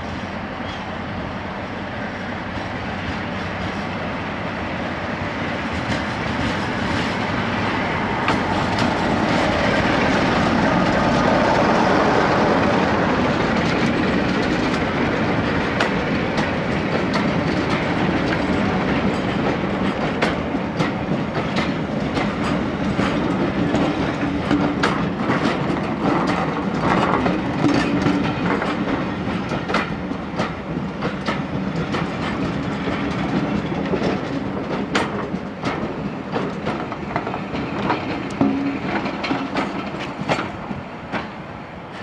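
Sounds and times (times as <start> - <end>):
train wheels clicking on rail joints: 0.0 - 42.0.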